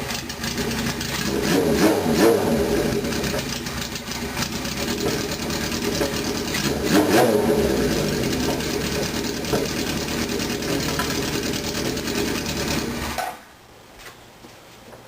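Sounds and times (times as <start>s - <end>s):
motorcycle engine idling and revving: 0.0s - 13.3s.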